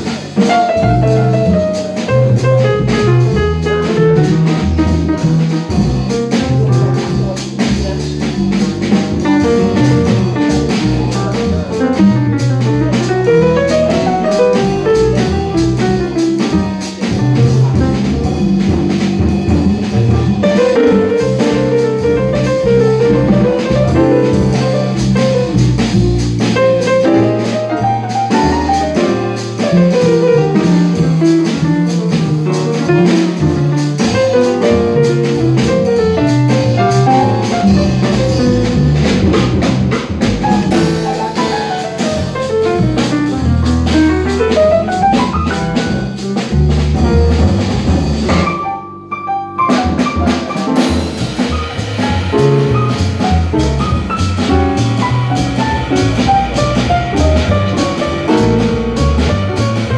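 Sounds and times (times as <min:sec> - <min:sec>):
double bass: 0:00.0 - 0:59.9
drum kit and cymbals: 0:00.0 - 0:59.9
piano runs: 0:00.0 - 0:59.9.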